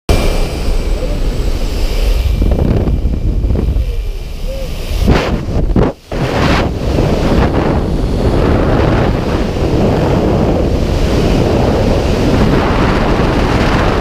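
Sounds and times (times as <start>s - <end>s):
rushing air: 0.1s - 14.0s
wind buffeting microphone: 0.1s - 14.0s.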